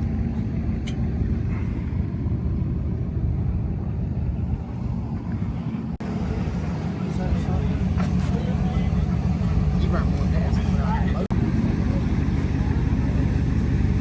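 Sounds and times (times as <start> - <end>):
vehicle engines idling: 0.0 - 14.0.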